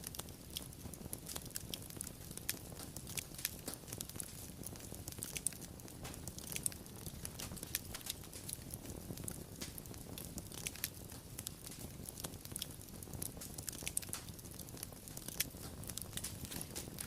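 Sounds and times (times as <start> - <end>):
low rumble of flames: 0.0 - 17.0
sharp pops and snaps: 0.0 - 17.0
wood fire crackling: 0.0 - 17.0.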